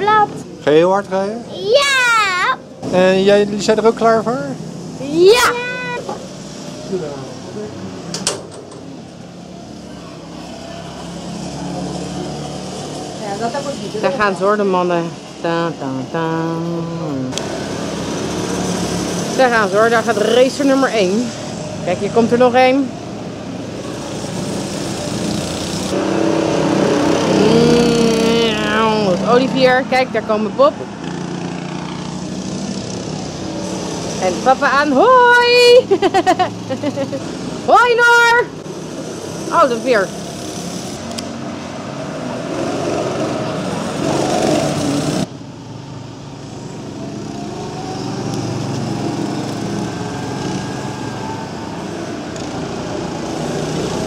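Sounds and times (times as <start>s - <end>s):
go-kart engine: 0.0s - 54.0s.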